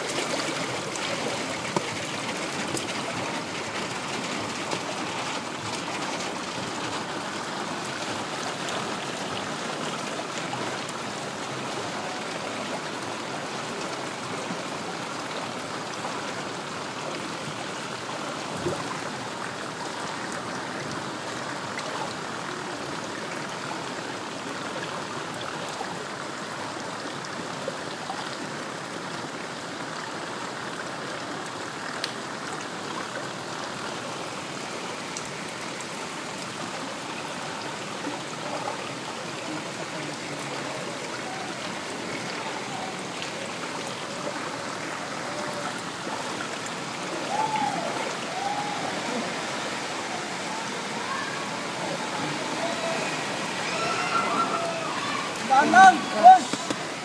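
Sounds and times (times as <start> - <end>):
floodwater rushing and splashing: 0.0 - 57.0.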